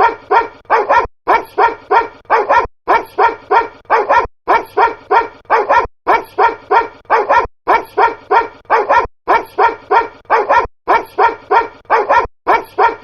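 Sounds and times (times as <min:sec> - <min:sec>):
looped dog barks: 0:00.0 - 0:13.0.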